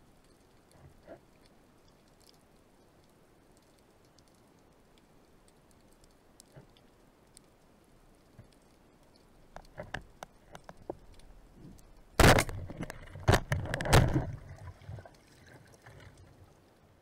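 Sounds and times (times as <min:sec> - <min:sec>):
faint underwater clicks: 0:00.0 - 0:17.0.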